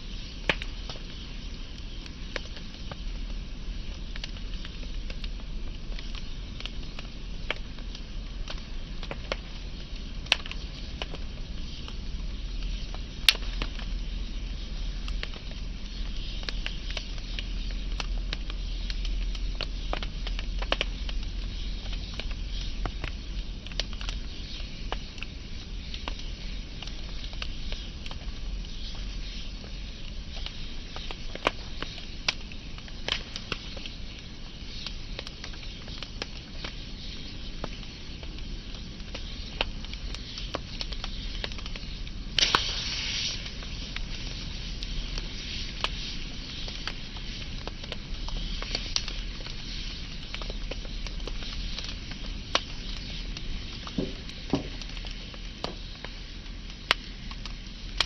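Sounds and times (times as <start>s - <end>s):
fire crackling and popping: 0.0s - 58.0s
wood fire rumbling: 0.0s - 58.0s.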